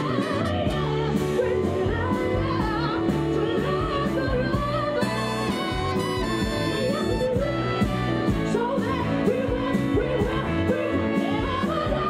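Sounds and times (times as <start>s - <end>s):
bass guitar: 0.0s - 12.0s
electric guitar: 0.0s - 12.0s
steady drum beat: 0.0s - 12.0s
woman singing into microphone: 0.0s - 12.0s.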